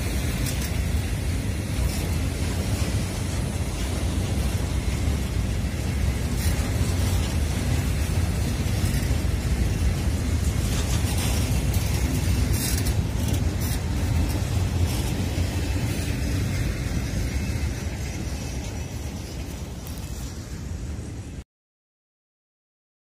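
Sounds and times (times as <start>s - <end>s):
train wagons rolling past: 0.0s - 21.4s
wind rumble on microphone: 0.0s - 21.4s.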